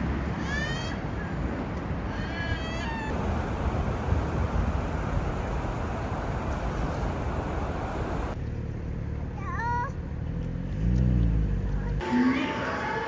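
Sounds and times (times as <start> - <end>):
dull outdoor background: 0.0 - 13.0
street traffic: 0.0 - 13.0.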